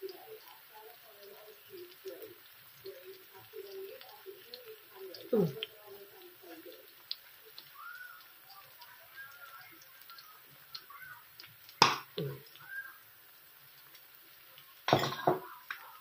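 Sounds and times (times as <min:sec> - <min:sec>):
onions frying in oil: 0:00.0 - 0:16.0.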